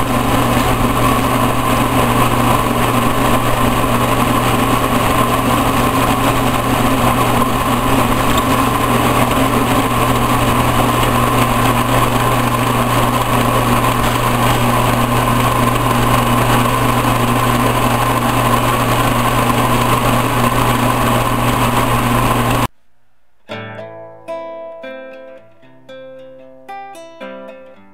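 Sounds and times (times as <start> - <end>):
milling machine hum and whine: 0.0 - 22.7.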